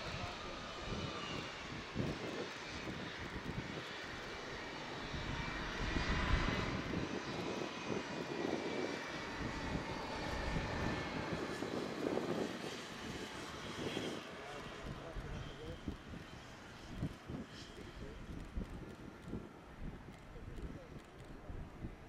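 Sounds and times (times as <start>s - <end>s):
jet engines rushing with whine: 0.0s - 22.0s.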